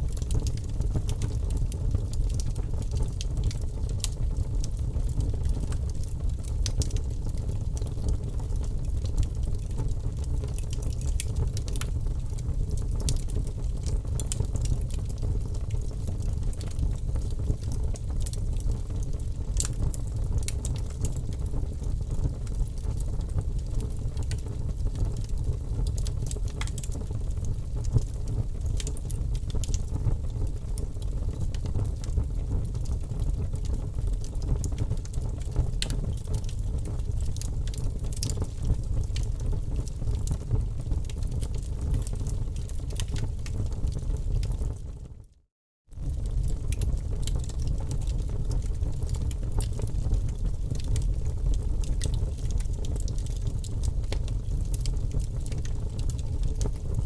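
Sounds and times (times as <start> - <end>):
wood fire crackling: 0.0 - 45.2, 45.9 - 57.0.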